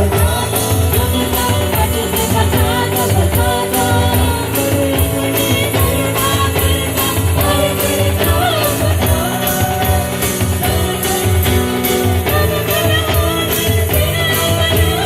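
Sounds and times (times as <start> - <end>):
person singing: 0.0 - 15.0
tambourine-like percussion: 0.0 - 15.0
worship band instrumental: 0.0 - 15.0.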